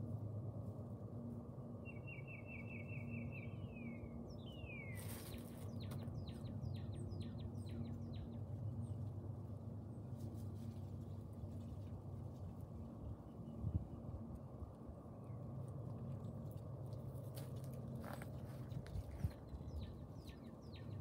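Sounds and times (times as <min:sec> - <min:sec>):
low outdoor rumble: 0:00.0 - 0:21.0
songbird singing: 0:01.8 - 0:10.1, 0:10.7 - 0:15.9, 0:17.4 - 0:21.0.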